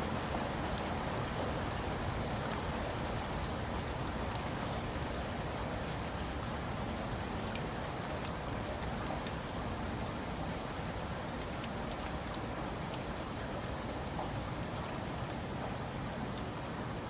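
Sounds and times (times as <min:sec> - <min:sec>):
rain drop ticks: 0:00.0 - 0:17.0
steady rain patter: 0:00.0 - 0:17.0.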